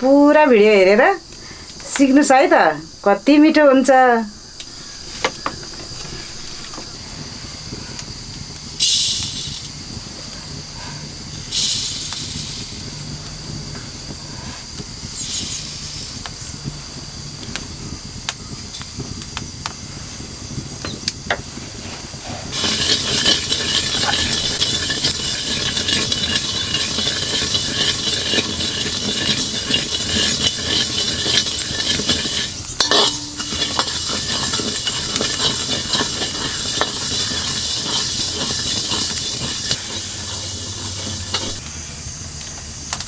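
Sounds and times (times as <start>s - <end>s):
seeds rattling into a wok: 0.0s - 16.6s, 21.8s - 41.6s
wood fire crackling: 0.0s - 43.0s
ladle stirring seeds in a wok: 1.3s - 13.4s, 14.1s - 16.7s, 21.6s - 41.7s.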